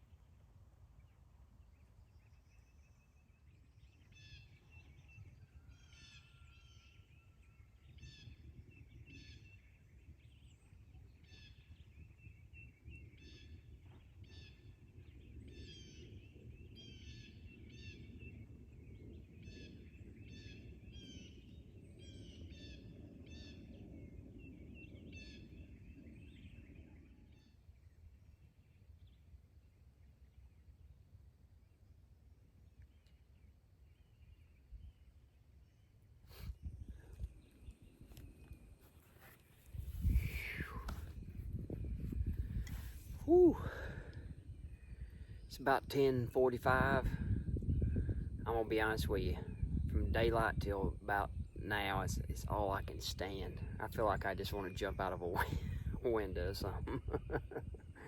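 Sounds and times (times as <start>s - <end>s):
songbird chirps and trills: 0.0s - 58.0s.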